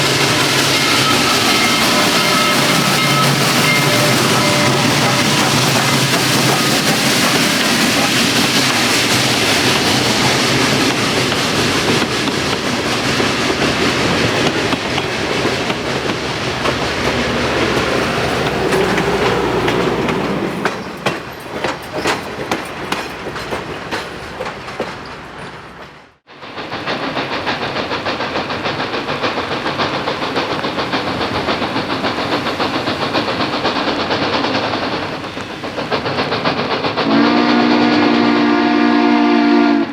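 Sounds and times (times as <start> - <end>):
wheels clicking over rail joints: 0.0 - 26.1, 26.7 - 37.2
steam locomotive exhaust: 0.0 - 39.9.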